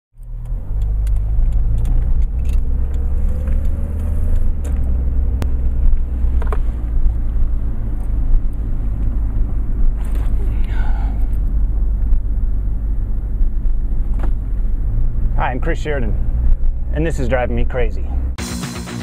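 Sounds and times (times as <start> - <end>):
car engine and road noise: 0.1 - 19.0.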